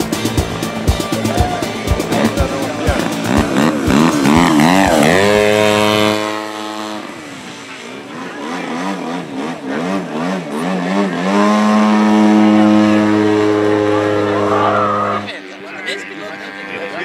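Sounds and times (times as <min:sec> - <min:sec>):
model airplane engine: 0:00.0 - 0:17.0.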